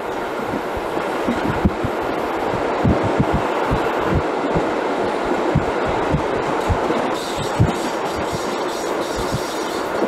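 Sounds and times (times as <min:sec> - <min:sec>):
train carriage rumble: 0:00.0 - 0:10.0.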